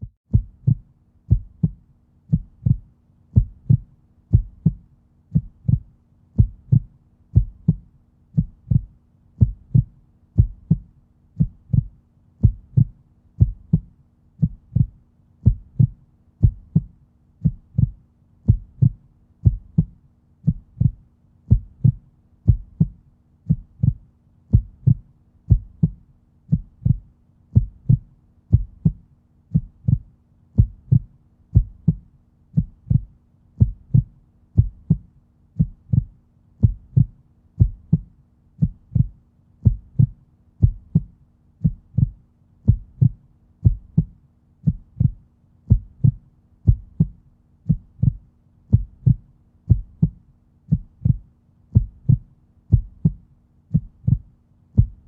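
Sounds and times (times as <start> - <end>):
faint steady hum: 0.0 - 55.0
heartbeat thumps: 0.0 - 55.0.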